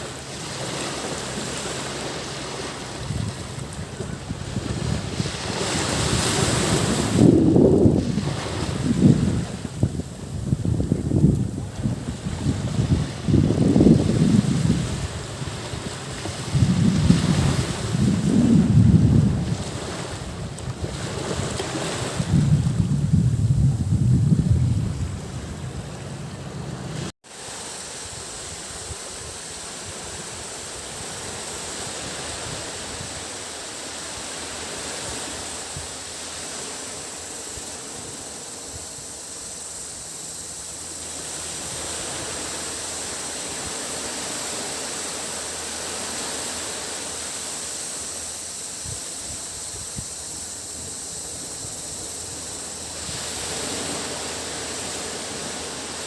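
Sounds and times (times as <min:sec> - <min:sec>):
cicadas buzzing: 0:00.0 - 0:56.0
small waves washing onto beach: 0:00.0 - 0:56.0.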